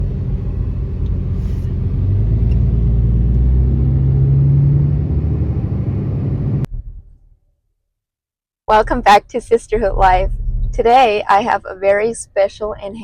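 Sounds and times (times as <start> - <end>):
vehicle engine rumbling: 0.0 - 7.4, 8.7 - 13.0.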